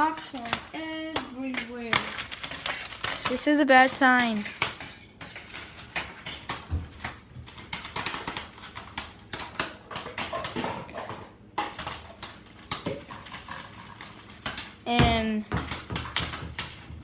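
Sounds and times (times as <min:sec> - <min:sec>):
popcorn popping: 0:00.0 - 0:17.0.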